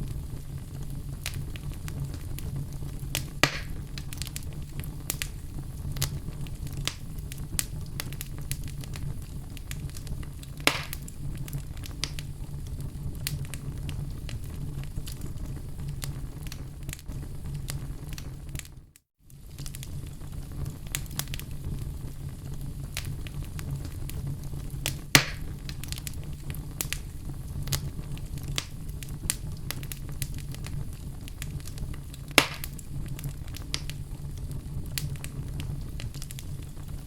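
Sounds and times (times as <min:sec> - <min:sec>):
fire crackling: 0:00.0 - 0:37.0
loud fire pops: 0:00.0 - 0:37.0
low rumble of flames: 0:00.0 - 0:37.0.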